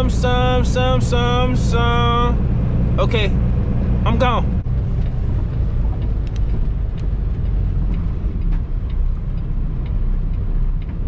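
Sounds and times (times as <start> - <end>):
diesel engine and road rumble: 0.0 - 11.0.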